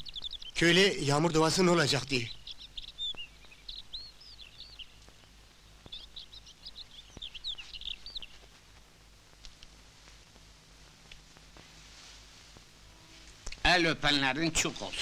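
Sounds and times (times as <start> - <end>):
faint background hiss: 0.0 - 15.0
small birds chirping: 0.0 - 15.0.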